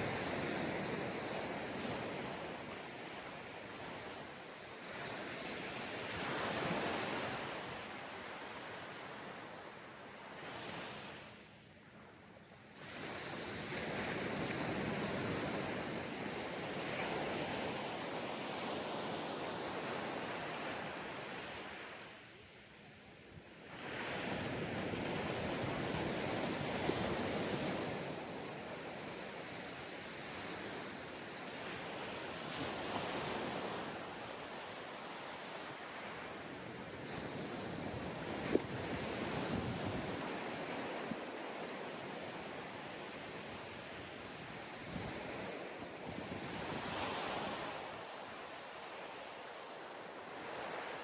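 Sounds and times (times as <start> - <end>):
ocean waves breaking on beach: 0.0 - 51.0.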